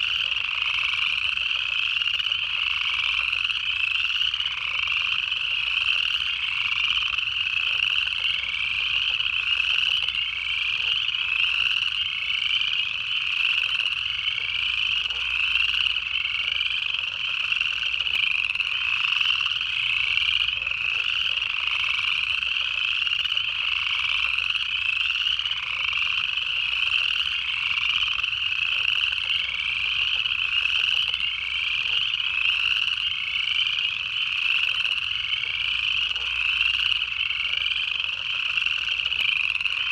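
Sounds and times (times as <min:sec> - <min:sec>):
frogs trilling chorus: 0:00.0 - 0:39.9.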